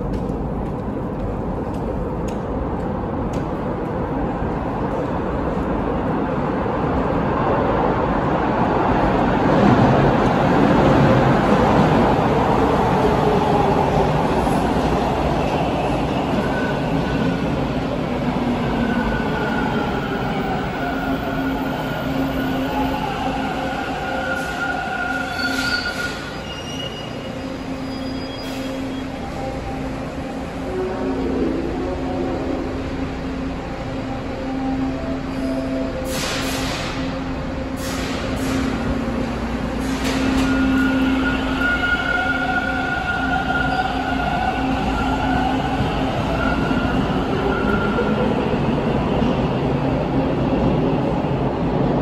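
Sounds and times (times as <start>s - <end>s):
subway train rumbling: 0.0s - 52.0s.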